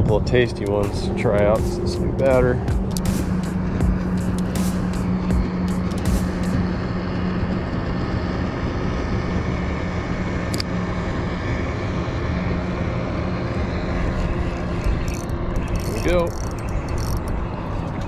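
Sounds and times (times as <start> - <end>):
electric motor humming: 0.0 - 18.0
wind rumbling on microphone: 0.0 - 18.0.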